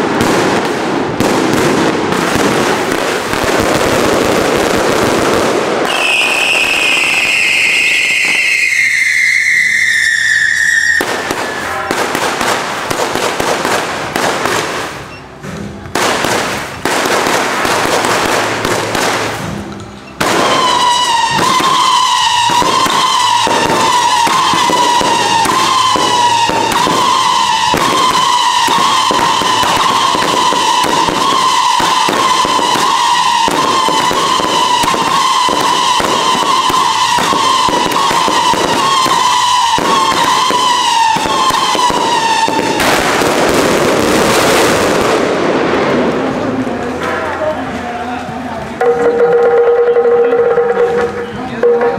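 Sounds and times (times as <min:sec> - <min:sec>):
whistling firework: 0:00.0 - 0:15.3, 0:16.0 - 0:45.4
crackling firework bangs: 0:00.0 - 0:47.6.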